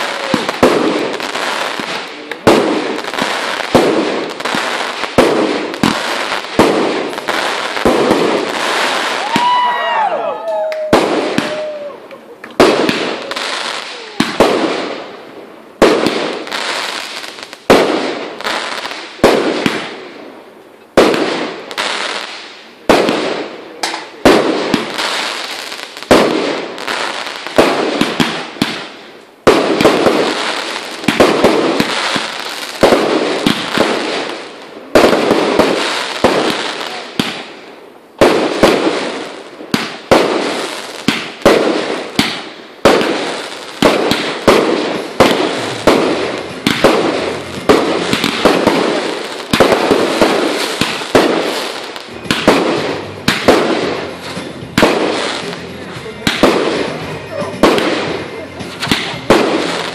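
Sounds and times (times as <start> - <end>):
fireworks banging: 0.0 - 20.2, 20.9 - 59.9.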